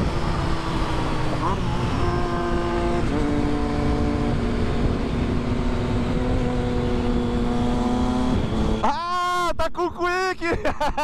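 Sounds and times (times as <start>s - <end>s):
wind rumble on microphone: 0.0s - 8.8s
motorcycle engine cruising: 0.0s - 8.9s.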